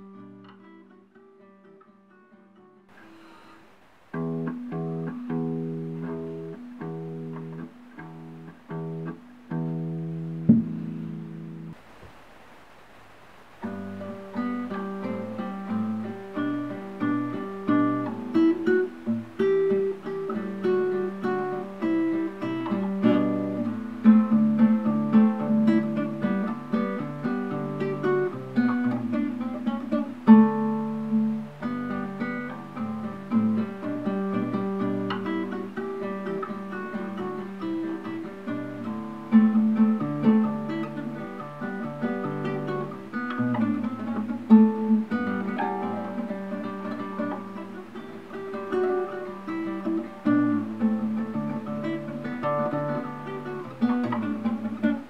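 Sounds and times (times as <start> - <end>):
classical guitar fingerstyle: 0.0 - 12.2, 13.1 - 55.0.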